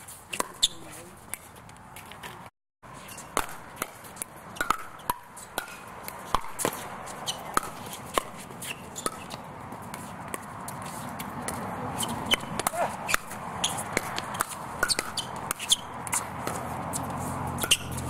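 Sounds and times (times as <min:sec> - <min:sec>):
ball bouncing on hard court: 0:03.0 - 0:18.0.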